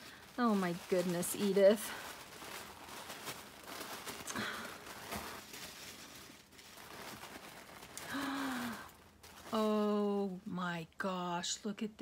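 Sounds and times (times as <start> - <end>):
tissue paper rustling: 0.0 - 10.3.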